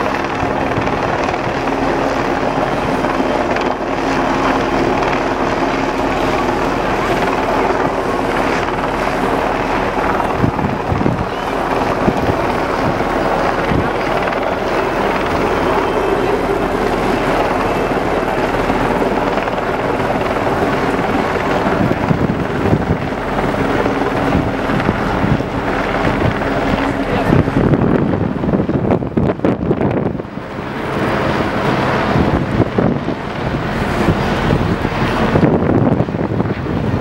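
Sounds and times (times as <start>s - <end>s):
boat engine droning: 0.0s - 37.0s
water noise: 0.0s - 37.0s
wind buffeting microphone: 0.0s - 37.0s.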